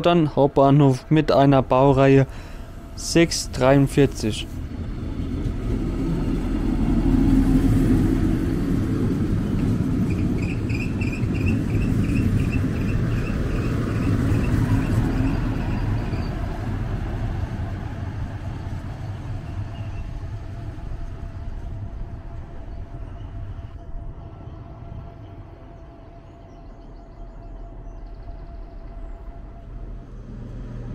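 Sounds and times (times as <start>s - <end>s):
diesel train engine and wheel rumble: 0.0s - 30.9s.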